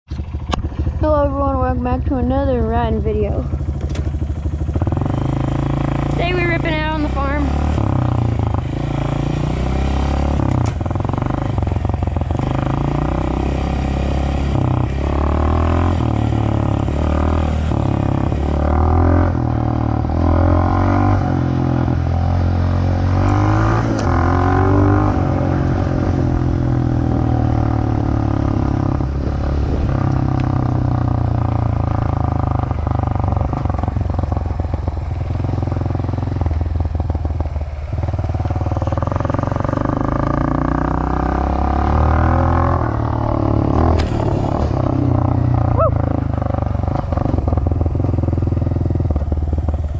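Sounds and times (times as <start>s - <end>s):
dirt bike engine revving: 0.2s - 34.4s, 38.4s - 49.6s.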